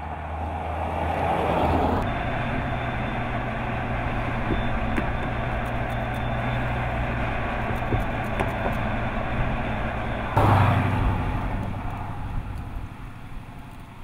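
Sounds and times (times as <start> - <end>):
car engine cruising: 0.0 - 14.0.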